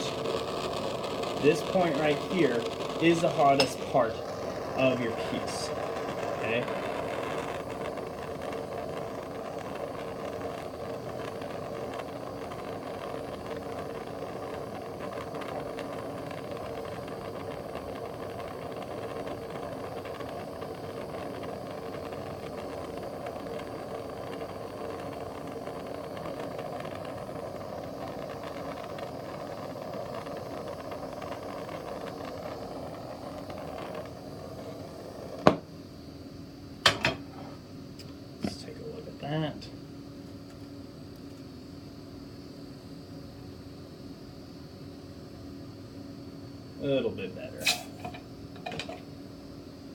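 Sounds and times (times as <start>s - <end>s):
torch flame hissing: 0.0s - 49.9s.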